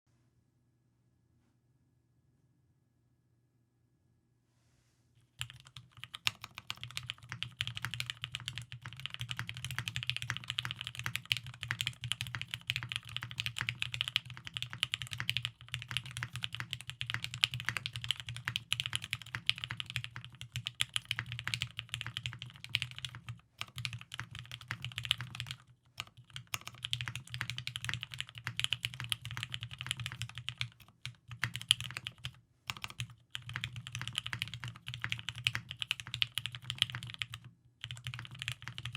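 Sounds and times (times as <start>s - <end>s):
mechanical keyboard typing: 5.4s - 38.9s.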